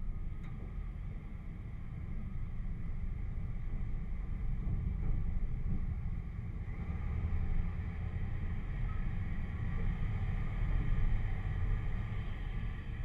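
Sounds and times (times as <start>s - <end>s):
vehicle engine low rumble: 0.0s - 13.0s.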